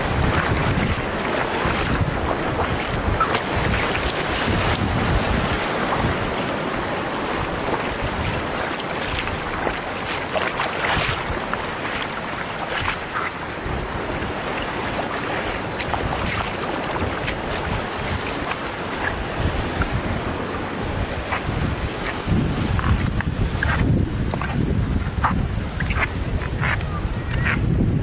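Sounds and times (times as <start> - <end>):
small water splashes: 0.0 - 26.8
shallow surf over rocks: 0.0 - 28.0
wind buffeting microphone: 0.0 - 28.0.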